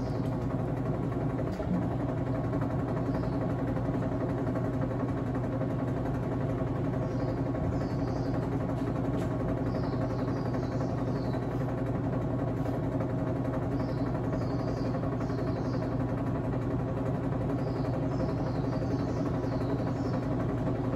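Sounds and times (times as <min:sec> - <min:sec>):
washing machine spinning: 0:00.0 - 0:20.9.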